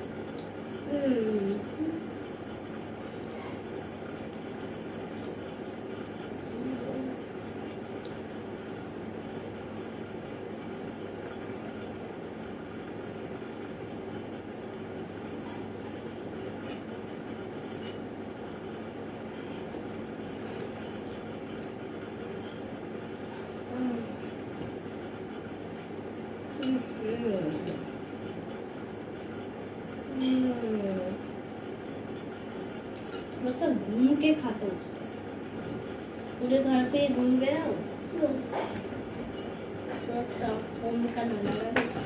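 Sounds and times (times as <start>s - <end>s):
room noise hum: 0.0s - 42.0s.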